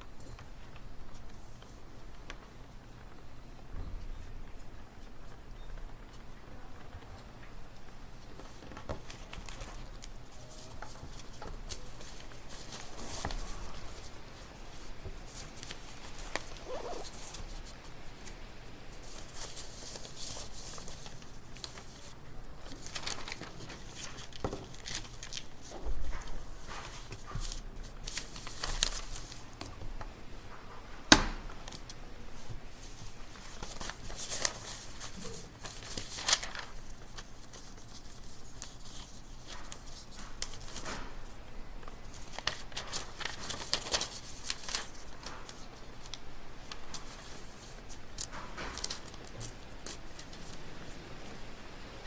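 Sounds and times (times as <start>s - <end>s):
paper rustling: 0.3s - 3.1s, 4.0s - 52.0s.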